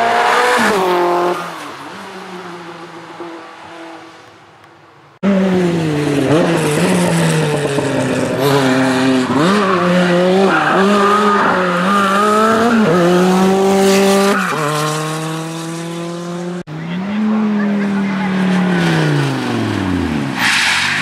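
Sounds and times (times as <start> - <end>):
rally car engine revving: 0.0 - 4.2, 5.2 - 21.0.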